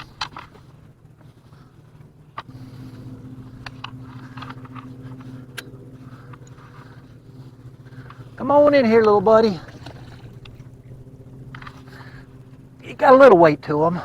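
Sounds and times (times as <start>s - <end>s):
small motor humming: 0.0s - 14.0s.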